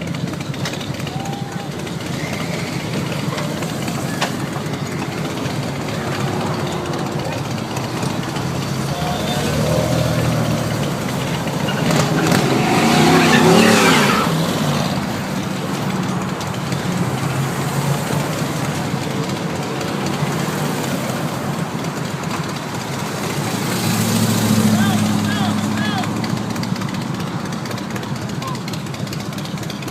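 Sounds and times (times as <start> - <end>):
car engines running: 0.0 - 29.9.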